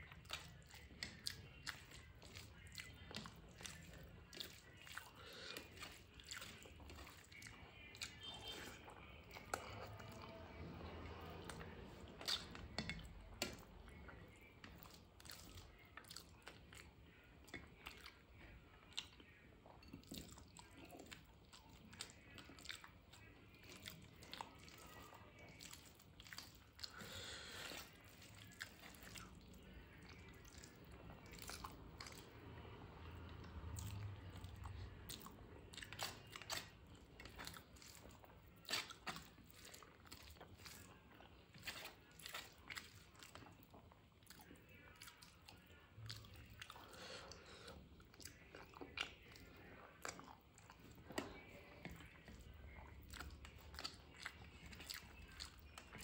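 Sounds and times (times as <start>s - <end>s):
fingers squishing food: 0.0s - 56.0s
person chewing food: 0.0s - 56.0s.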